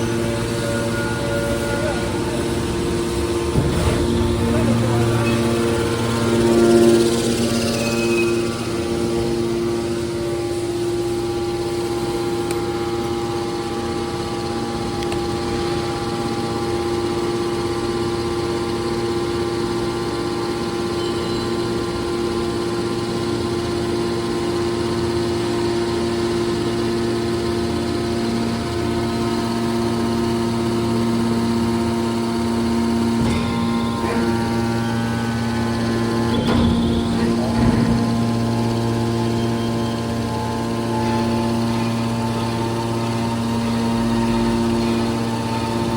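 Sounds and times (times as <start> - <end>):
can baler machine hum: 0.0 - 45.9.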